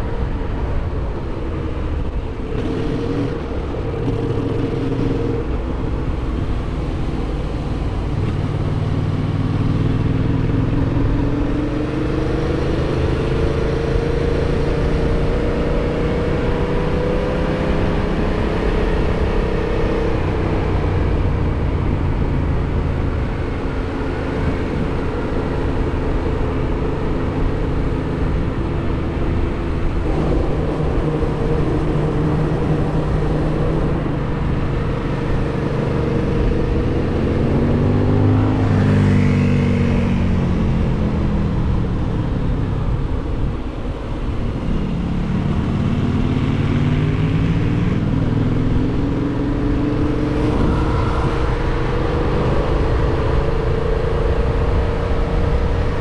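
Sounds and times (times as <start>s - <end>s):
motorcycle engine cruising: 0.0s - 56.0s
wind noise: 9.9s - 56.0s.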